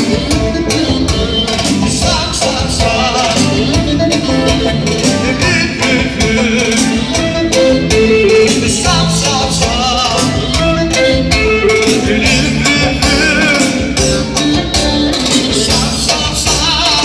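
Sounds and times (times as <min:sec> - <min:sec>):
clarinet melody: 0:00.0 - 0:15.9
keyboard accompaniment: 0:00.0 - 0:17.0.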